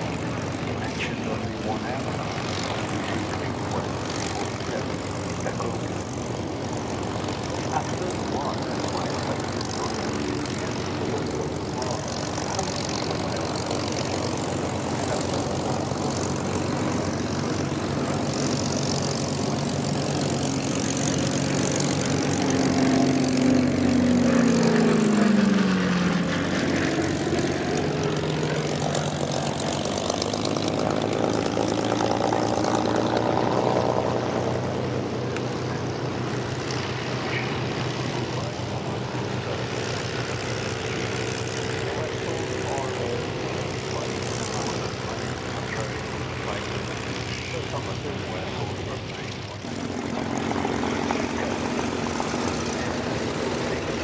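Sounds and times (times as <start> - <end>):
propeller aircraft flying past: 0.0 - 54.0.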